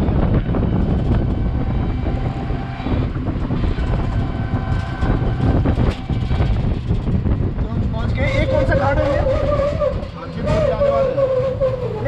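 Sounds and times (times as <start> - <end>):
auto-rickshaw rumbling: 0.0 - 12.0
road noise: 0.0 - 12.0.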